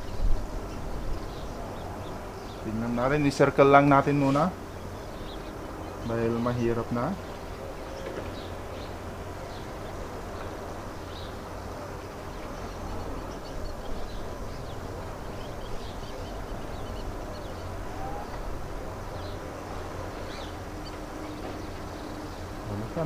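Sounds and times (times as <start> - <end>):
low outdoor hum: 0.0 - 23.0
small birds chirping: 0.0 - 23.0.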